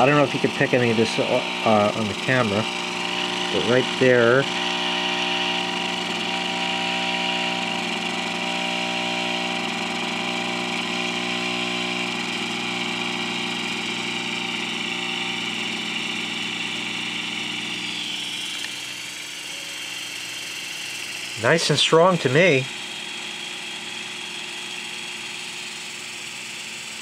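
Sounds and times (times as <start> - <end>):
fog machine pump buzzing: 0.0 - 27.0.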